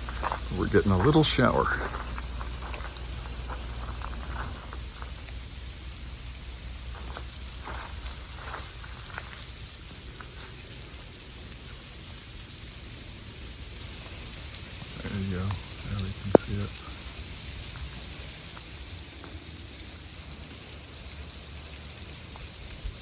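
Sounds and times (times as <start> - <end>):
light rain pattering: 0.0 - 23.0
raindrops ticking on surfaces: 0.0 - 23.0.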